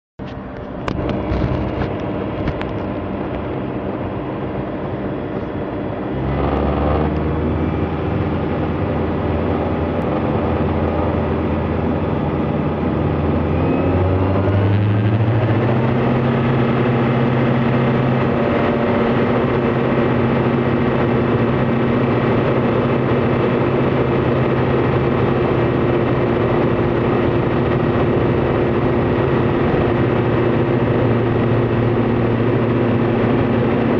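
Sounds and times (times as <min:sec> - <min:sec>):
light aircraft piston engine: 0:00.2 - 0:33.9.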